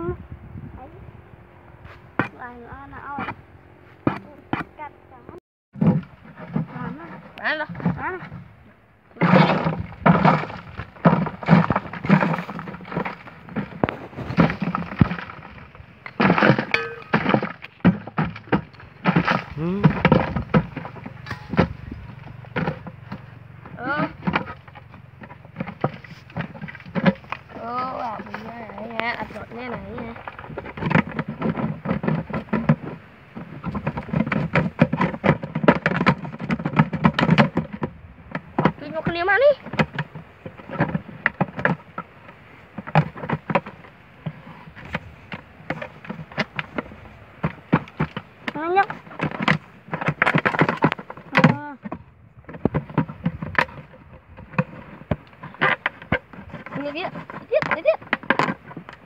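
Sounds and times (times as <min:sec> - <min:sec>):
hatchet chopping stony soil: 0:09.2 - 0:59.0.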